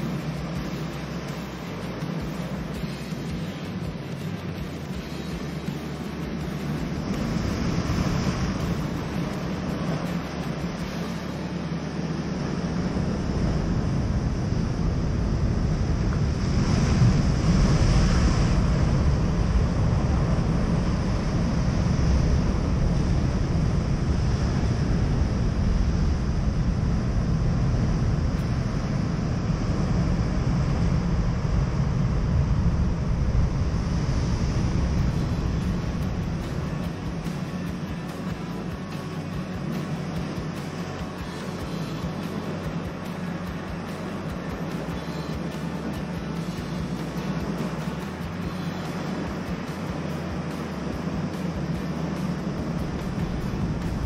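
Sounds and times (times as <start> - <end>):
low rumble: 0.0 - 54.0
ocean surf: 0.0 - 54.0.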